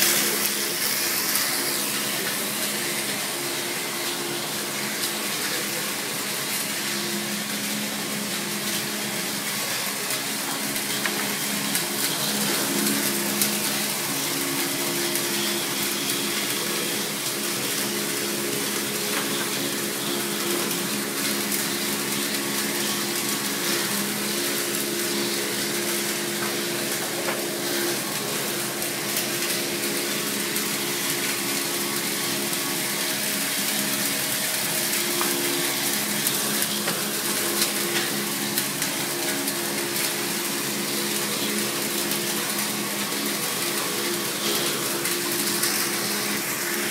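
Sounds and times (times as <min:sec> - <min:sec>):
constant motor hum: 0:00.0 - 0:46.9.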